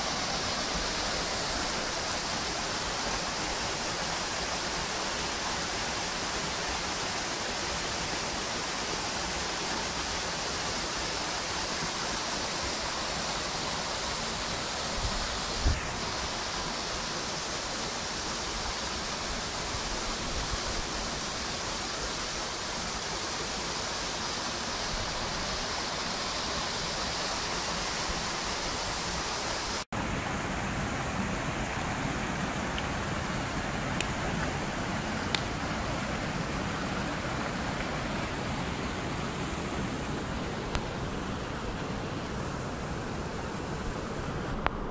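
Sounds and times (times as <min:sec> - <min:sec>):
stream running among boulders: 0:00.0 - 0:44.9
waterfall rushing: 0:00.0 - 0:44.9.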